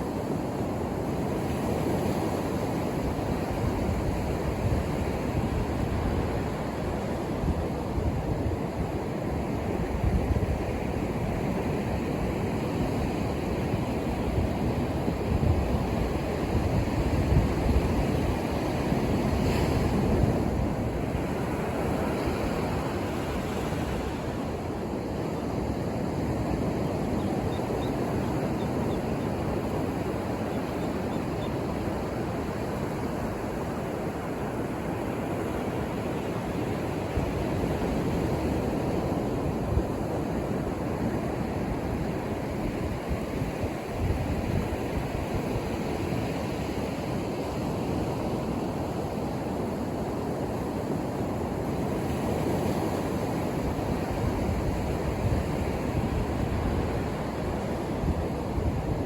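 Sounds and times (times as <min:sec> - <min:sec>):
ocean surf washing ashore: 0:00.0 - 0:59.0.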